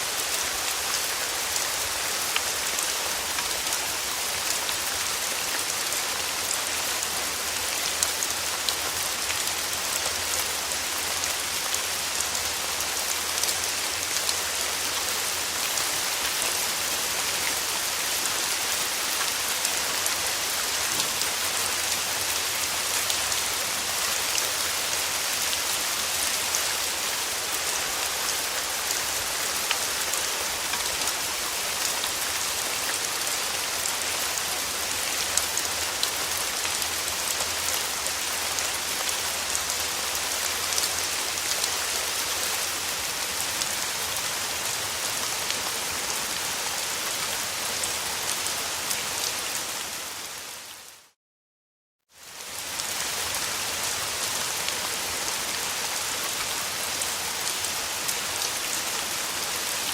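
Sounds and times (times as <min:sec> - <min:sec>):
rain falling on a surface: 0:00.0 - 0:51.2, 0:52.1 - 0:59.9.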